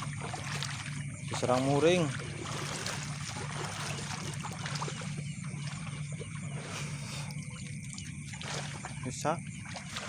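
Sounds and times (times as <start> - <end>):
shallow water trickling: 0.0 - 10.0.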